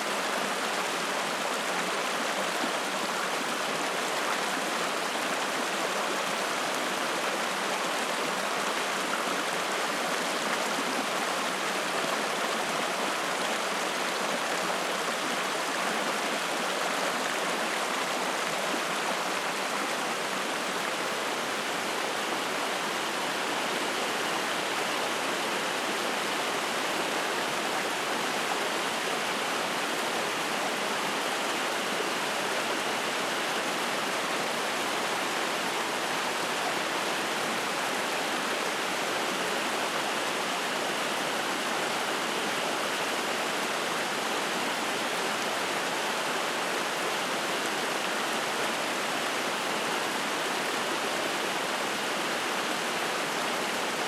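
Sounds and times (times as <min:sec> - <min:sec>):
stream flowing and splashing: 0:00.0 - 0:54.0.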